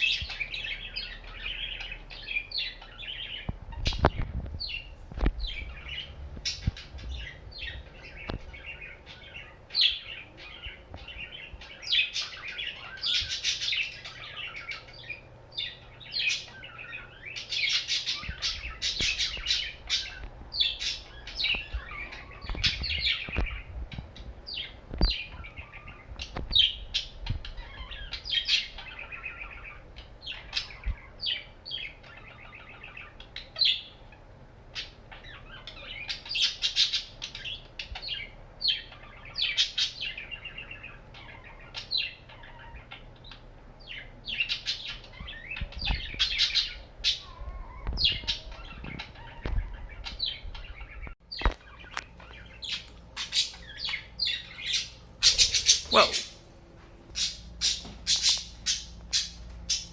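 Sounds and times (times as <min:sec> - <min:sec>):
budgerigars chirping: 0:00.0 - 0:56.4, 0:57.2 - 0:59.9.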